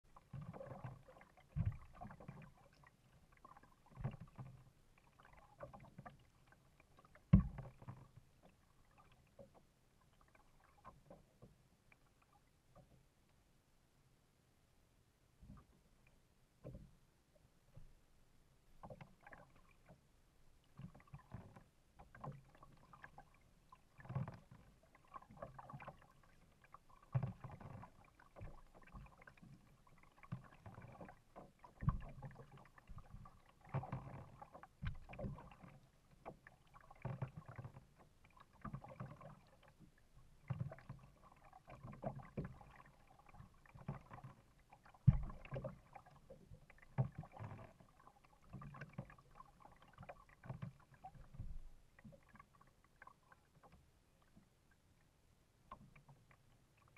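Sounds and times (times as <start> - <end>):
kayak paddle splashing: 0.0 - 12.4, 18.8 - 54.9.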